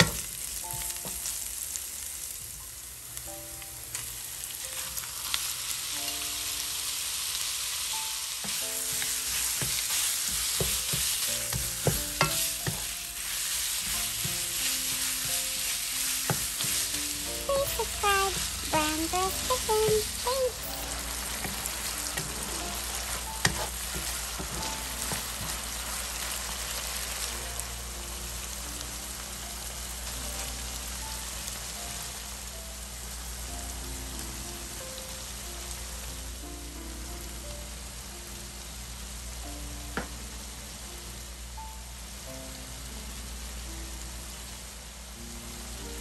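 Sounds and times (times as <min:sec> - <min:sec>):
meat sizzling in a pan: 0:00.0 - 0:46.0.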